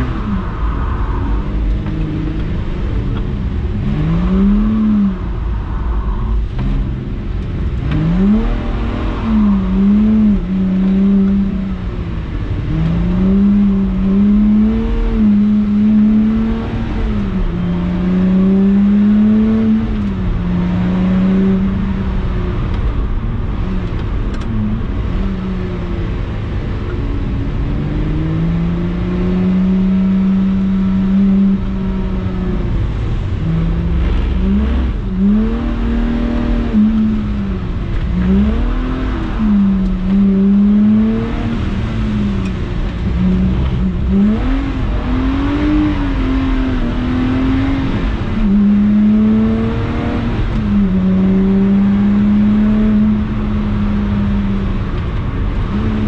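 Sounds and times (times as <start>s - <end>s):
car engine revving on track: 0.0s - 56.0s.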